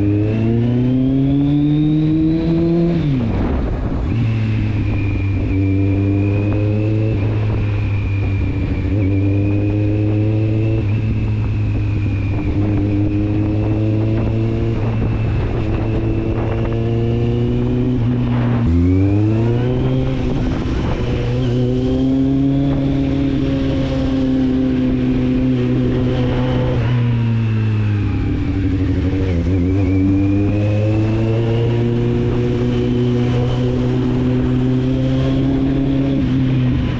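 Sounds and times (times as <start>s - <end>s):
motorcycle engine and exhaust: 0.0s - 36.9s.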